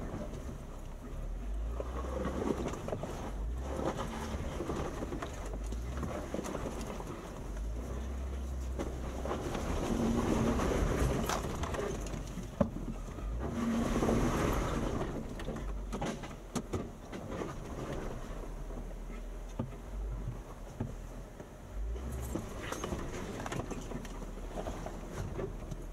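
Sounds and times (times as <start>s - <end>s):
vehicle driving on dirt trail: 0.0s - 25.9s.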